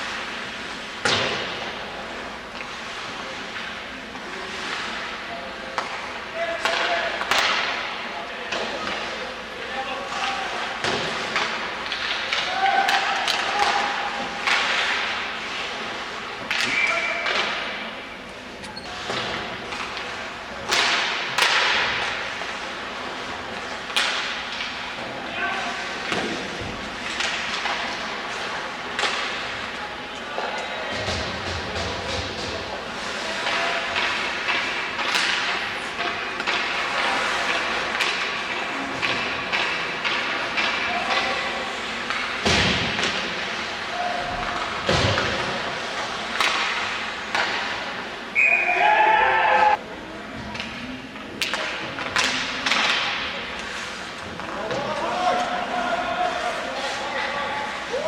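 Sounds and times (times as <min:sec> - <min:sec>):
hockey sticks and puck cracking: 0:00.0 - 0:48.3, 0:50.4 - 0:58.0.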